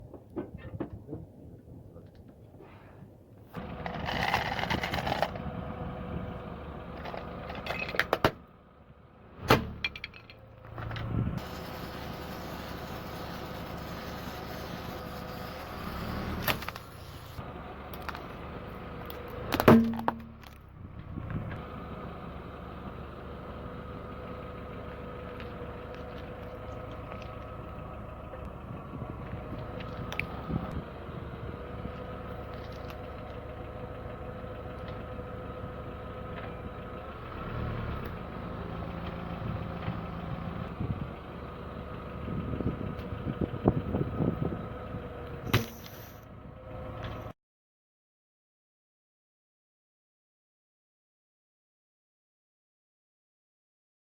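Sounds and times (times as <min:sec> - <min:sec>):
car engine and tyres rolling: 0:00.0 - 0:47.4.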